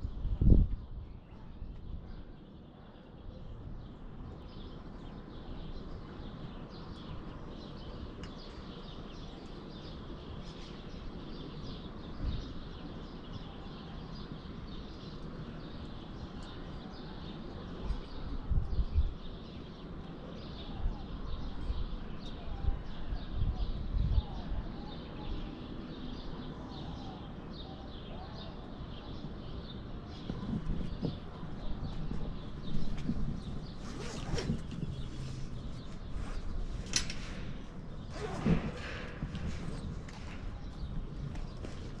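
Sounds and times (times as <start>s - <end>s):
outdoor background noise: 0.0s - 42.0s
small birds chirping: 0.0s - 42.0s.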